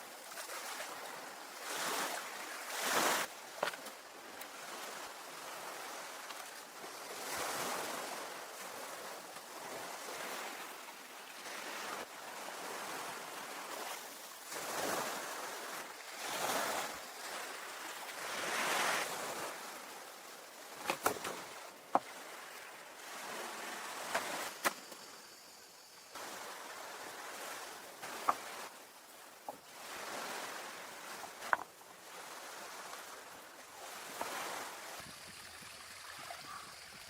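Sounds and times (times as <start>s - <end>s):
ocean waves washing ashore: 0.0s - 37.0s.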